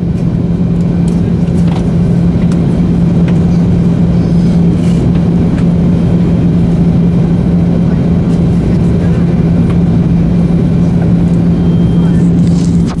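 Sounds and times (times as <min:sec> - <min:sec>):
constant low hum: 0:00.0 - 0:13.0
jet engines and airflow rumble: 0:00.0 - 0:13.0.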